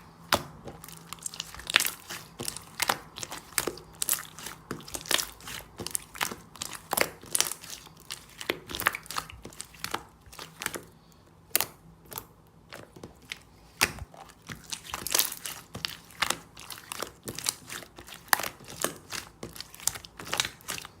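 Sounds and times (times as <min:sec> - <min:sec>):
crunching and crinkling: 0:00.0 - 0:21.0.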